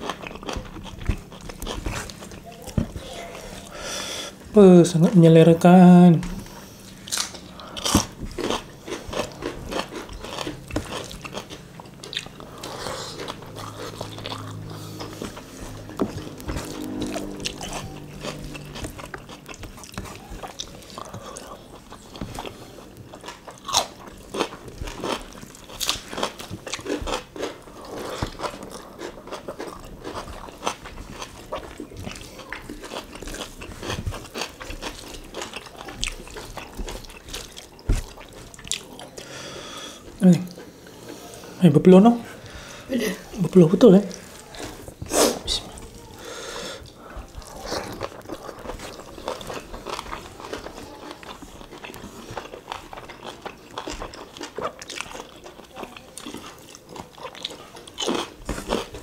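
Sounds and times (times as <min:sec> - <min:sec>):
people chewing food: 0:00.0 - 0:59.0.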